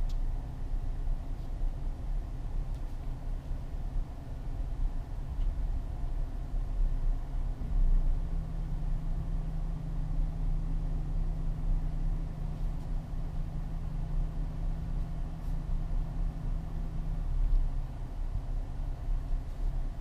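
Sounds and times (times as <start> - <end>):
car engine idling: 0.0 - 20.0
steady low hum: 0.0 - 20.0.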